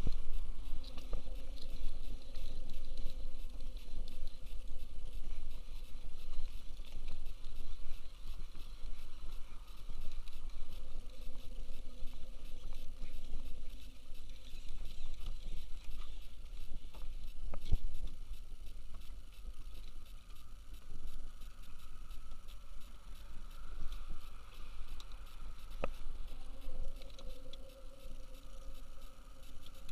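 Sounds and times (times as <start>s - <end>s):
small clicks: 0.0s - 29.9s
wind rumbling on microphone: 0.0s - 29.9s.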